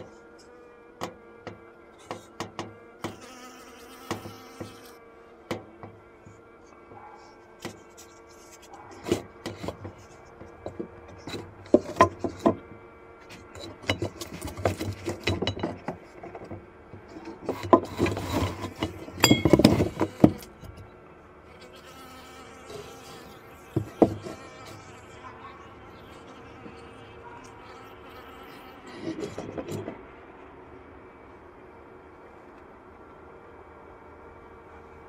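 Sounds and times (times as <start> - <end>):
bees buzzing: 0.0 - 15.1, 16.0 - 32.1.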